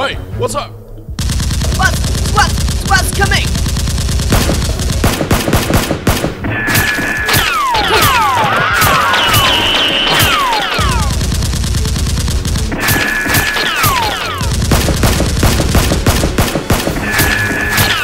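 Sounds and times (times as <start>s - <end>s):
gunfire sound effects: 1.2s - 18.0s.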